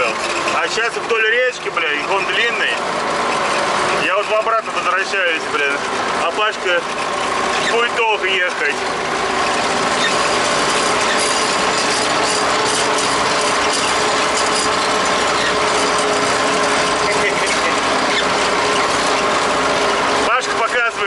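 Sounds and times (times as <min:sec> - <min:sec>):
tractor engine hum: 0:00.0 - 0:21.0
tractor rattling and clattering: 0:00.0 - 0:21.0.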